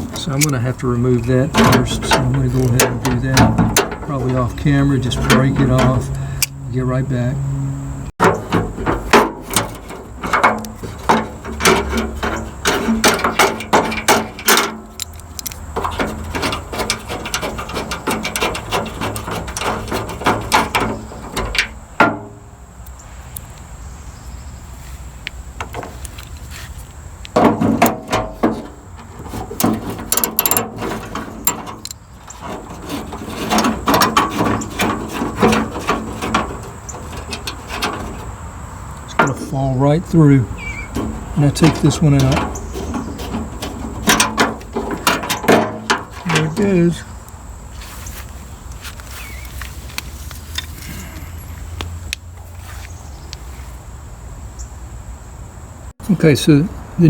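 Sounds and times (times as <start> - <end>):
hand tool clicking and scraping: 0.0 - 7.1, 8.2 - 23.0, 25.6 - 51.3.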